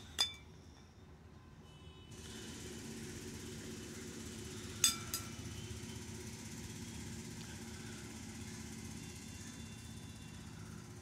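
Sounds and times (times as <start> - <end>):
steady low hum: 0.0 - 1.3, 2.1 - 11.0.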